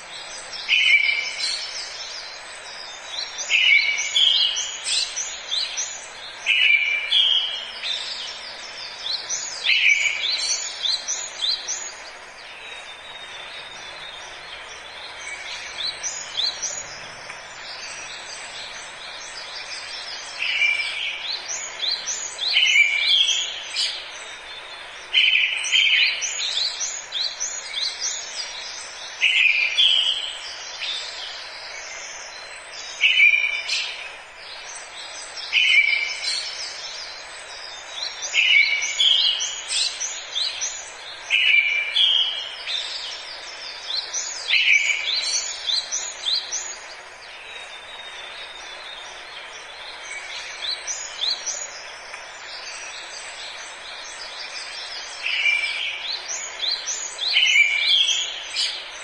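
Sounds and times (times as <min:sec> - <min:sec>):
background hiss: 0:00.0 - 0:59.0
birds twittering: 0:00.0 - 0:59.0.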